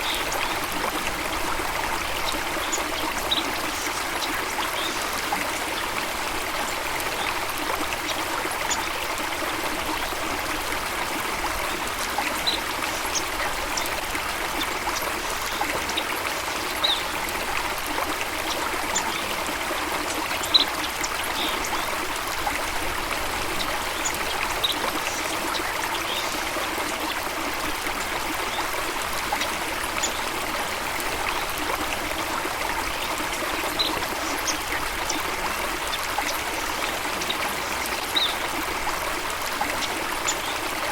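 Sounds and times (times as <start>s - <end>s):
water flowing steadily: 0.0s - 40.9s.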